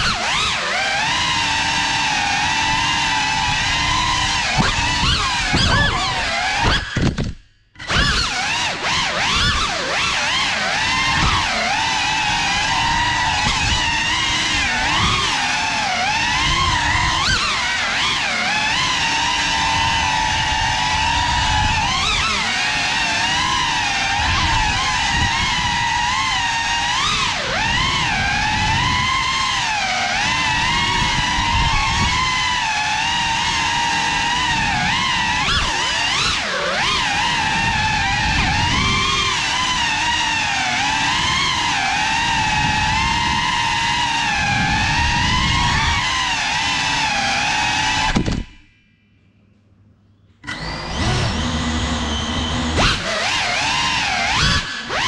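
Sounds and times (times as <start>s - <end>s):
drone propellers whining: 0.0s - 49.6s, 50.2s - 55.0s.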